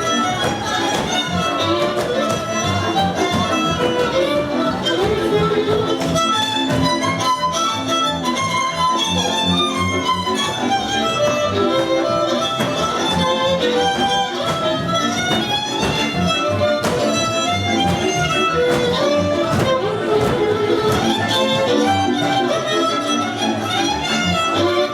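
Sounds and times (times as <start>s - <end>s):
violin-led string music: 0.0s - 24.9s.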